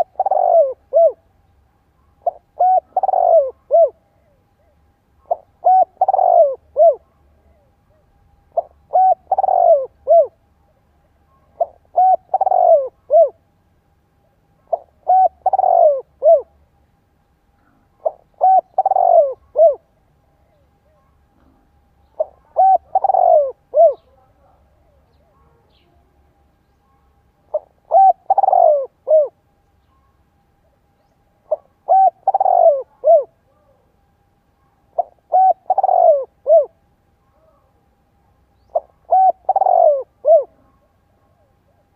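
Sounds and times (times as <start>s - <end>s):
dove cooing: 0.0s - 1.4s, 2.1s - 13.5s, 14.2s - 16.6s, 17.6s - 26.2s, 26.9s - 29.4s, 30.0s - 34.0s, 34.6s - 37.8s, 38.6s - 41.9s.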